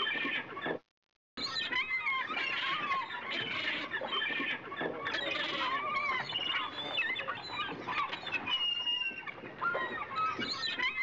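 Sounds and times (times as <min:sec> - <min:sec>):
gulls calling: 0:01.4 - 0:11.0.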